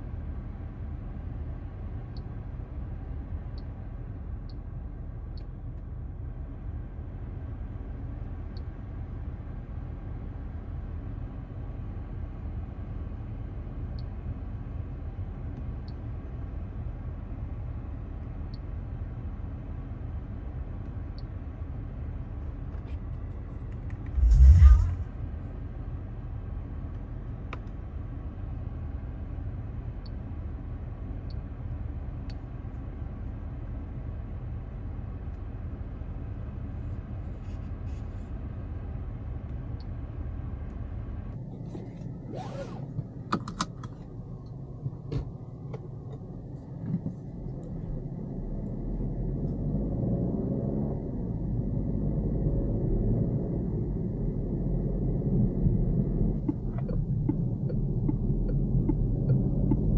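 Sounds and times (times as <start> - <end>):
car engine rumble inside cabin: 0.0 - 59.9
road rumble: 0.0 - 59.9.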